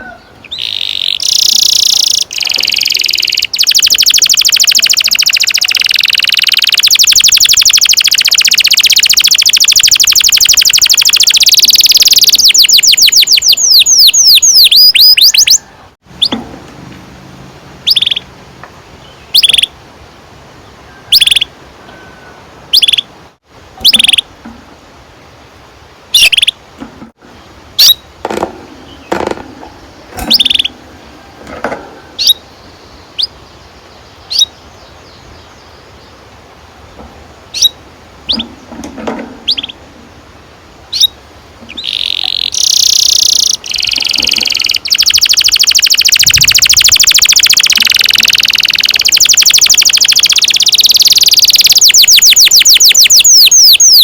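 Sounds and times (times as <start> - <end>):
canary singing: 0.0 - 16.5, 17.4 - 18.3, 19.0 - 19.8, 20.6 - 23.2, 23.8 - 24.3, 26.1 - 26.6, 27.7 - 36.3, 37.5 - 39.9, 40.9 - 54.0.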